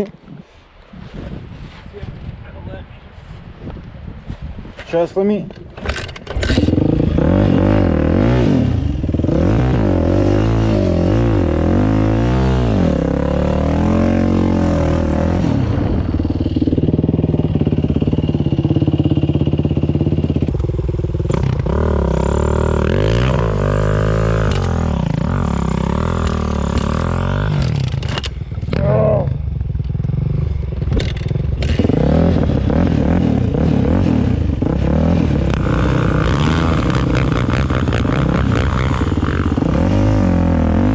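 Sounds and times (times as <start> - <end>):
dirt bike engine revving: 5.8 - 40.9.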